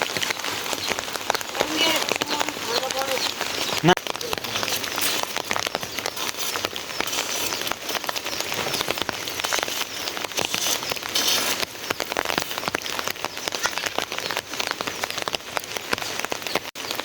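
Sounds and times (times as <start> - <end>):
close raindrop hits: 0.0 - 17.0
steady rain falling: 0.0 - 17.0.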